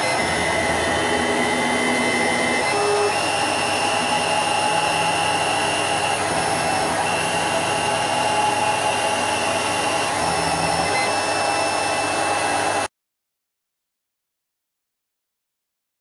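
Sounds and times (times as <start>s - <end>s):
faint whining tones: 0.0s - 12.8s
factory machinery running: 0.0s - 12.9s.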